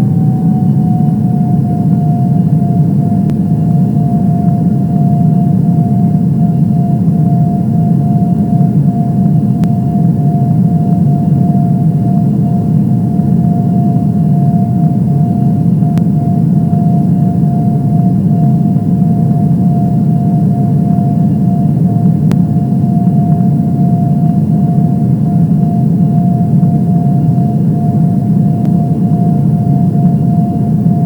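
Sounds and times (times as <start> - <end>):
airliner cabin engine rumble: 0.0 - 31.0
steady whine: 0.0 - 31.0.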